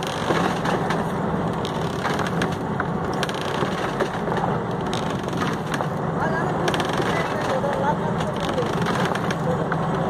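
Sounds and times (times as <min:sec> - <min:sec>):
clicks and knocks of wood and gear: 0:00.0 - 0:06.0, 0:06.6 - 0:09.8
fishing boat engine noise: 0:00.0 - 0:10.0.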